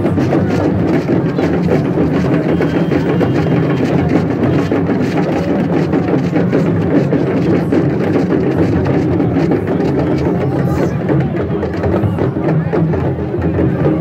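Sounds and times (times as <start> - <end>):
din of packed crowd: 0.0 - 14.0
drumming: 0.0 - 14.0.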